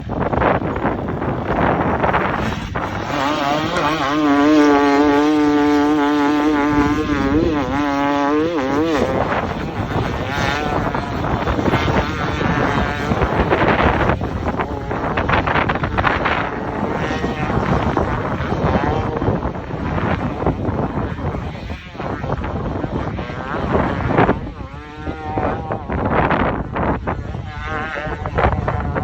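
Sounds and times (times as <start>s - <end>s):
dirt bike engine revving: 0.0s - 29.0s
wind on microphone: 0.0s - 29.0s.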